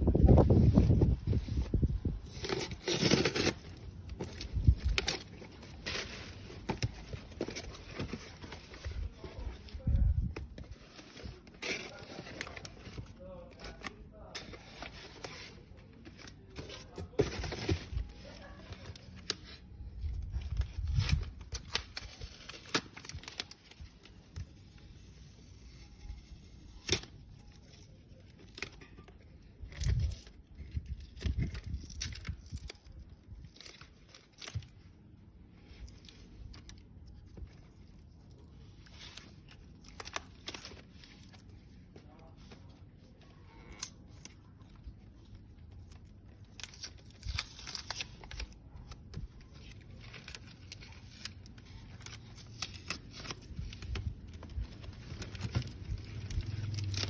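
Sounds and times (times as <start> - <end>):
packaging tearing and crinkling: 0.2 - 34.8, 35.8 - 41.9, 43.6 - 57.0.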